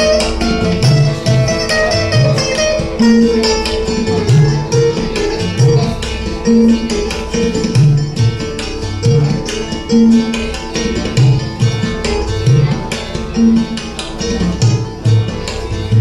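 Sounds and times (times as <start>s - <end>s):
acoustic guitars playing: 0.0s - 16.0s
tabla: 0.0s - 16.0s.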